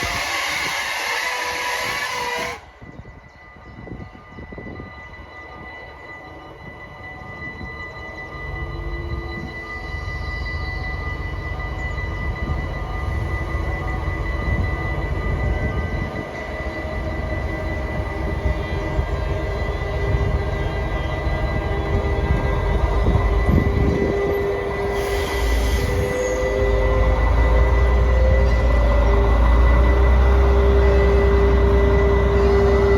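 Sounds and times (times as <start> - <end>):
diesel locomotive rumble: 0.0 - 32.9
loud train passing: 0.0 - 32.9.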